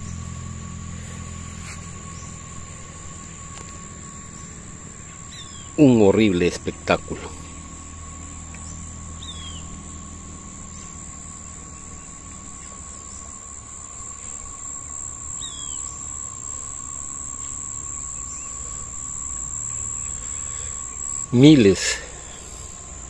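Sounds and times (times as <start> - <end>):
bird chirp: 0.0 - 23.0
insects droning: 0.0 - 23.0.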